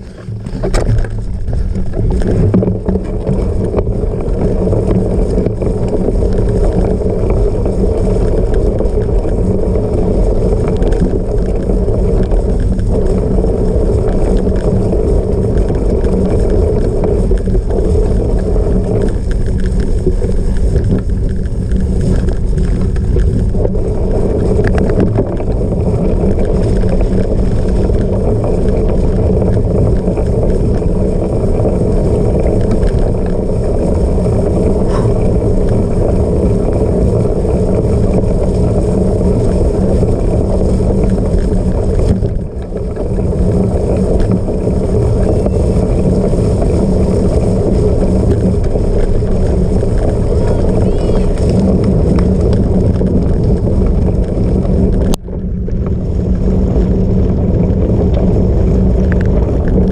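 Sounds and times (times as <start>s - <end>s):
bike tyre and frame noise: 0.0s - 59.9s
wind on microphone: 0.0s - 59.9s.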